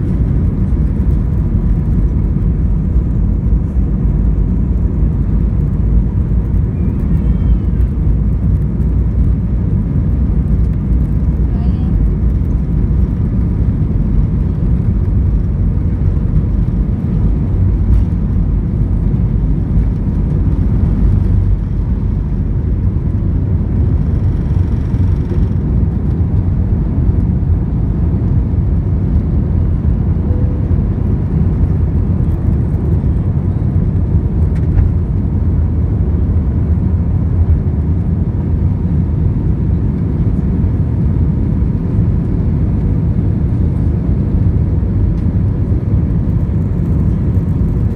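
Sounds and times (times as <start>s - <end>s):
jet engine rumble in cabin: 0.0s - 47.9s.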